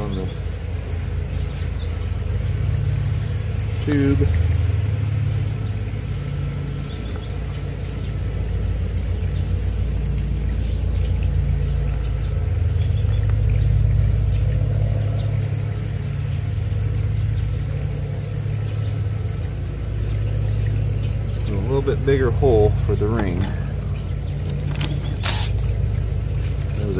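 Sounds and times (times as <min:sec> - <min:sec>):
low machine hum: 0:00.0 - 0:26.9.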